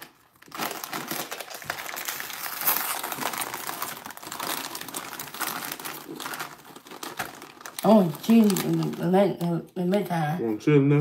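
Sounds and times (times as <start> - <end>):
plastic chip bag crinkling: 0.0 - 10.0
foil wrapper crinkling: 0.0 - 10.1.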